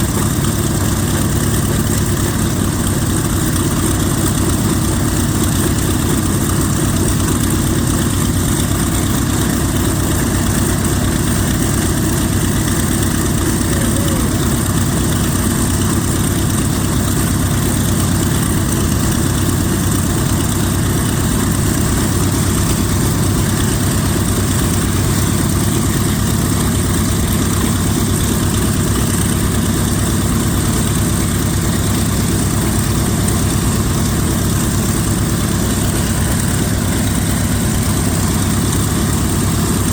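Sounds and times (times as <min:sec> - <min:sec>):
radial engine drone: 0:00.0 - 0:39.9.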